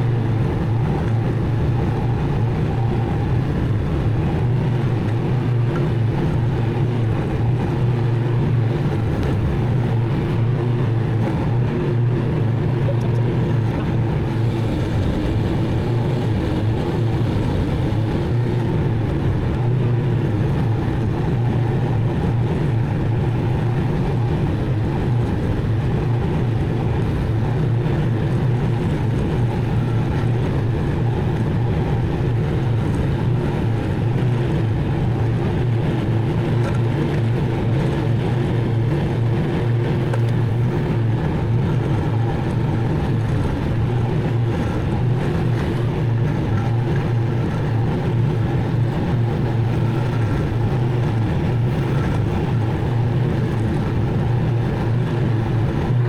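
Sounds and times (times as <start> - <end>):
riding mower engine droning: 0.0 - 56.0.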